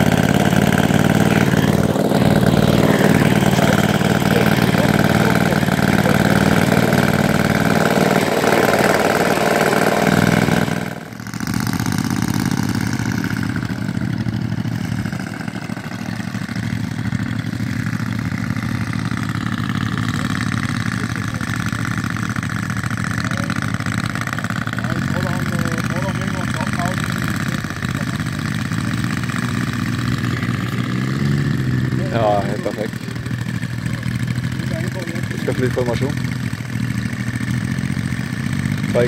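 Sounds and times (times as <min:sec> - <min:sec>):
model plane engine idling: 0:00.0 - 0:39.0.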